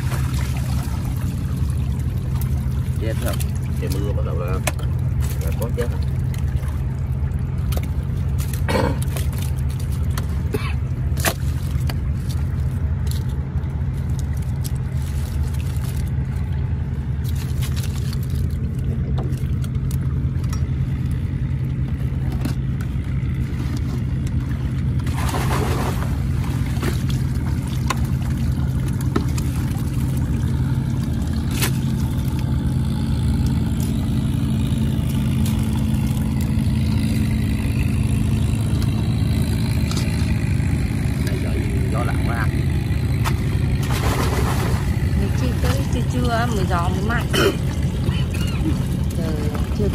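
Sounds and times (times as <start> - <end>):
engine humming steadily: 0.0 - 49.9.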